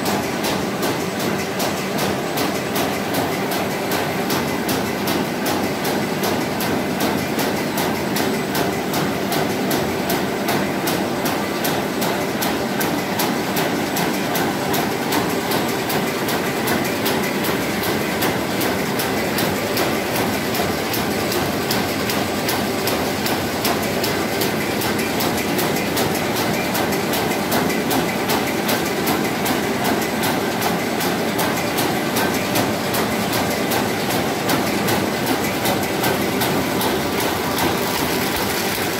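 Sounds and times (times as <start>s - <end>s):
constant machine hum: 0.0s - 38.9s
machine clattering with fast clicks: 0.0s - 38.9s.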